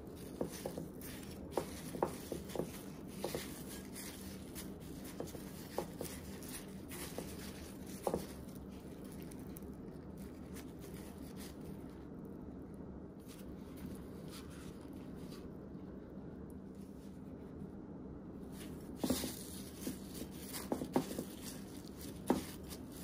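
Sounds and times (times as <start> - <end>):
breadcrumbs crunching and rustling: 0.0 - 17.4, 18.4 - 23.0
steady low hum: 0.0 - 23.0.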